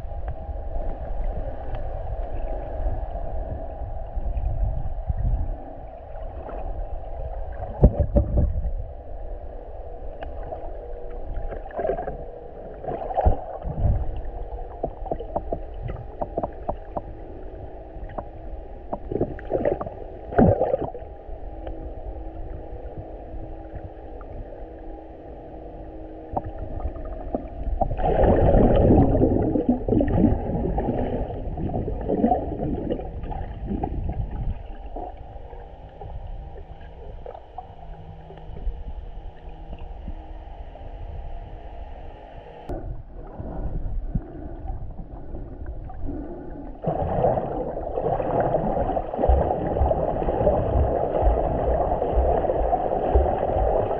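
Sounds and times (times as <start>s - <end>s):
muffled underwater sloshing: 0.0s - 53.9s.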